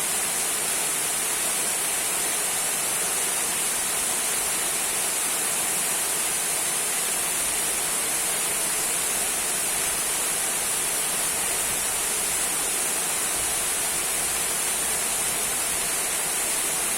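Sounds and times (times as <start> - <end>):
small waterfall splashing: 0.0 - 16.9.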